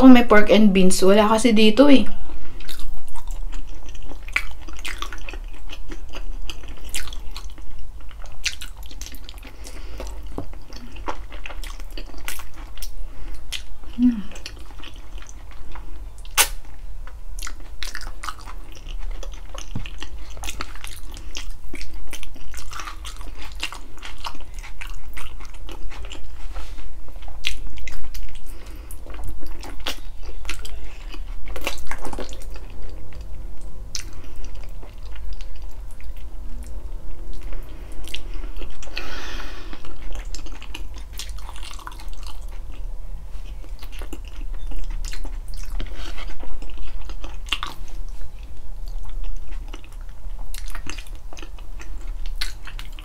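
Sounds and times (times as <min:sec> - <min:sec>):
person chewing and biting: 0:02.6 - 0:53.0.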